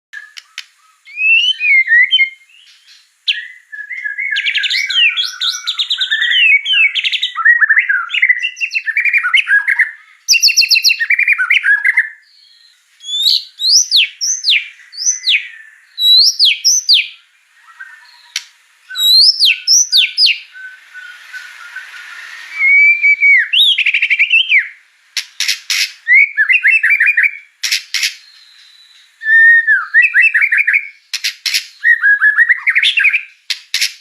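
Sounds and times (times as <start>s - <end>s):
songbird singing: 0.1s - 34.0s.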